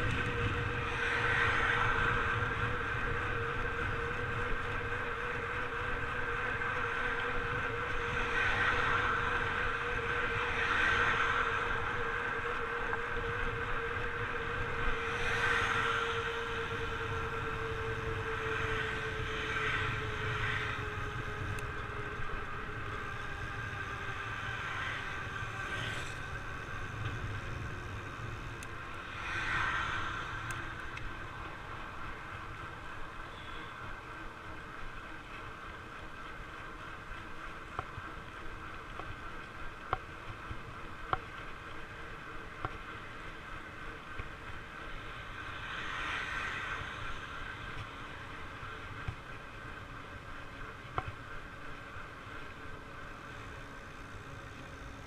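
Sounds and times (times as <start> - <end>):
cars passing: 0.0 - 37.7, 40.3 - 55.0
bike tyres humming on asphalt: 0.0 - 55.0
wind rumble on microphone: 0.0 - 55.0.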